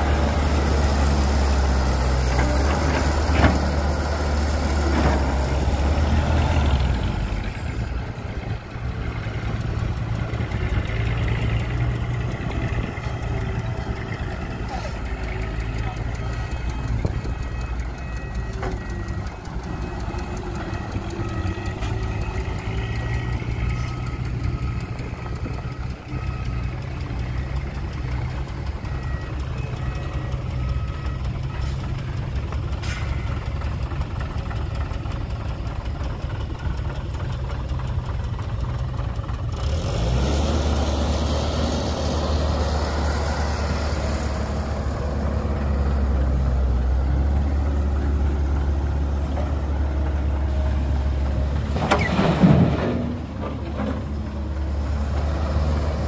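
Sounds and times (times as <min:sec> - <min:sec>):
diesel engines idling: 0:00.0 - 0:56.0.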